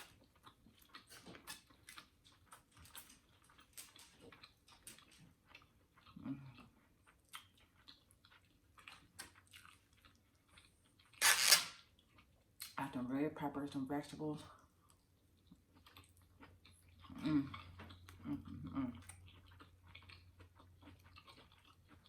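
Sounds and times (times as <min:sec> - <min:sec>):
person chewing food: 0:00.0 - 0:12.8, 0:14.6 - 0:22.0.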